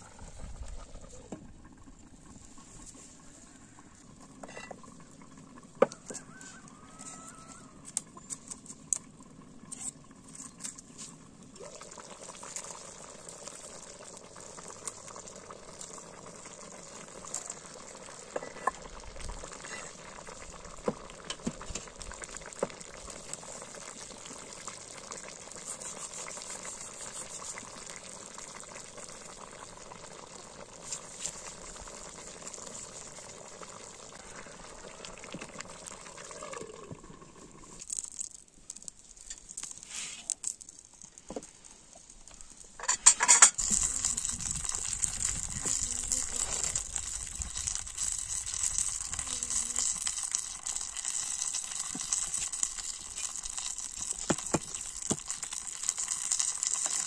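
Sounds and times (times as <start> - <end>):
food hissing and popping in a pot: 0.0 - 57.0.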